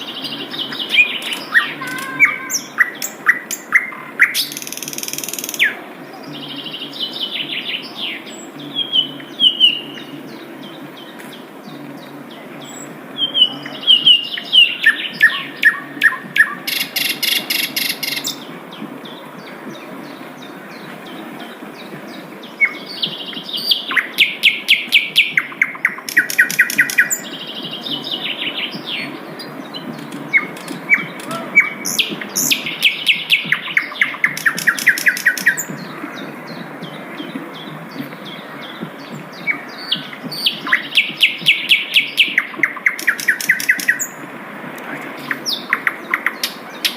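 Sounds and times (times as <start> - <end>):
flycatcher singing: 0.0 - 44.2.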